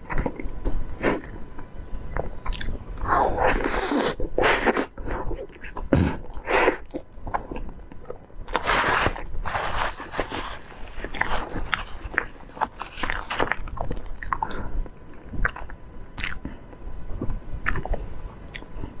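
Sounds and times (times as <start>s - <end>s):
person chewing food: 2.1s - 16.6s, 17.2s - 18.9s.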